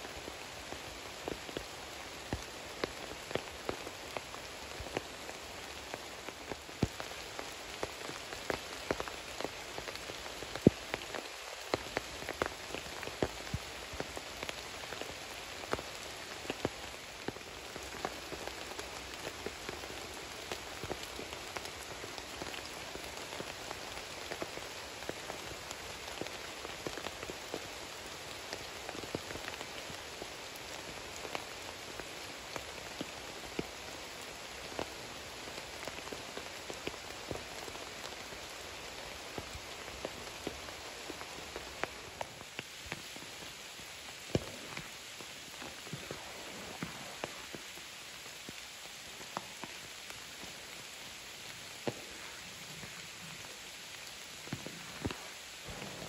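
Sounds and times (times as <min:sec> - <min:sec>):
rain hissing: 0:00.0 - 0:56.0
raindrops ticking close by: 0:00.0 - 0:56.0.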